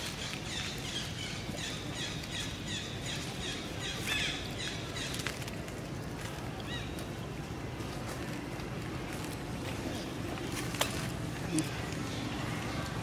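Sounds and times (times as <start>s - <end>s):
birds chirping: 0.0s - 13.0s
steady outdoor hiss: 0.0s - 13.0s.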